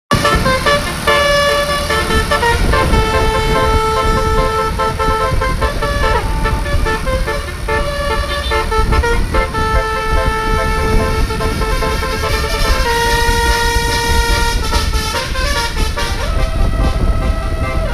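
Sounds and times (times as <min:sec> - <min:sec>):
multi-tone air horn tune: 0:00.1 - 0:17.9
steady low rumble: 0:00.1 - 0:17.9.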